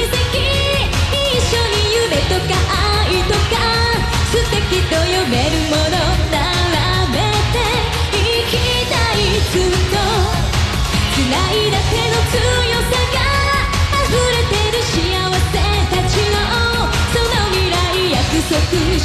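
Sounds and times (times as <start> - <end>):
band with electric guitars: 0.0 - 19.0
woman singing into microphone: 0.0 - 19.0.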